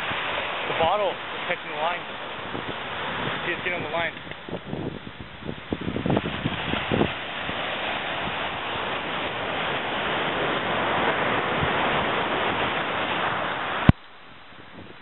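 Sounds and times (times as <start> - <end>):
surf breaking on a beach: 0.0 - 15.0
wind on microphone: 0.0 - 15.0.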